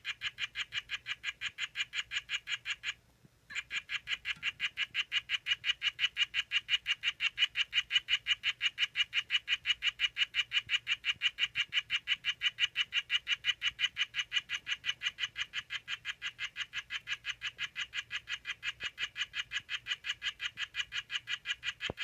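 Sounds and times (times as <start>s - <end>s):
frog chirping: 0.0s - 22.0s.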